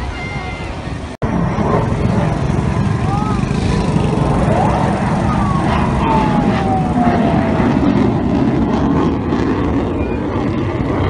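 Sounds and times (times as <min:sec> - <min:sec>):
jet aircraft roaring past: 0:00.0 - 0:11.0.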